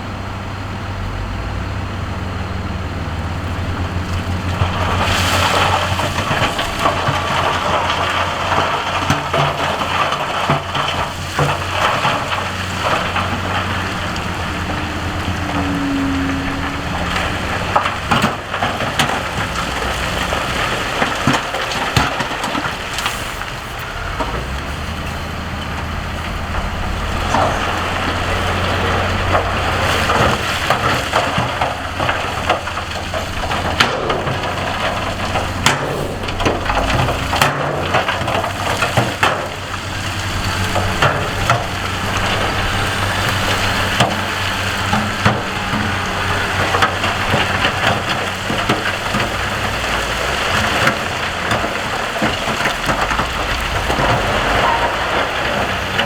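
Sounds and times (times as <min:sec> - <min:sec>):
diesel engine running under load: 0:00.0 - 0:56.0
rock and gravel crunching: 0:01.0 - 0:56.0.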